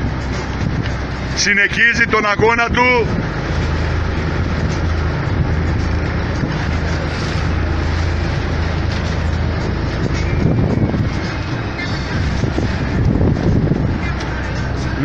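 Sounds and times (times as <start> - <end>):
boat engine drone: 0.0 - 15.0
choppy sea wash: 0.0 - 15.0
wind: 0.0 - 15.0.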